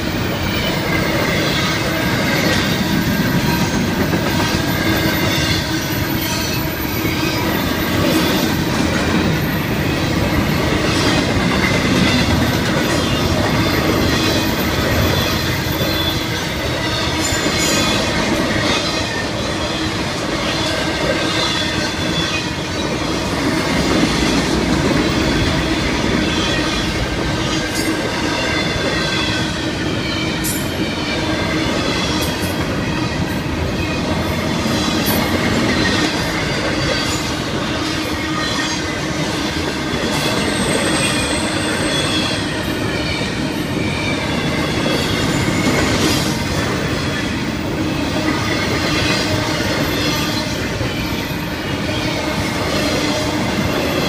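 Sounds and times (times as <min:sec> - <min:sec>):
freight train wheels rumbling: 0:00.0 - 0:54.0
high wheel squeal: 0:00.1 - 0:23.0, 0:25.0 - 0:39.1, 0:39.9 - 0:54.0.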